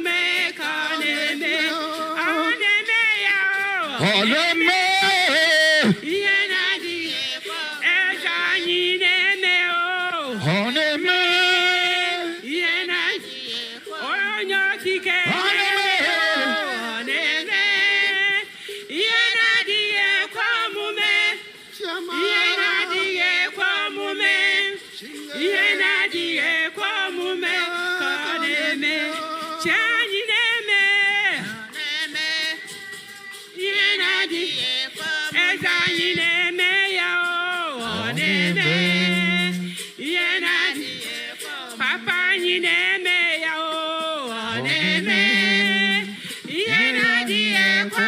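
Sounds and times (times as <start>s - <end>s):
voices singing held notes: 0.0s - 48.0s.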